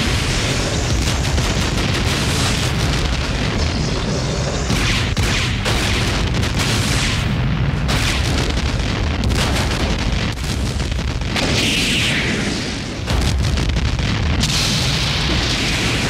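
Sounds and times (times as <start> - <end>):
crackling blast noise: 0.0 - 16.0
explosion rumbling blast: 0.0 - 16.0.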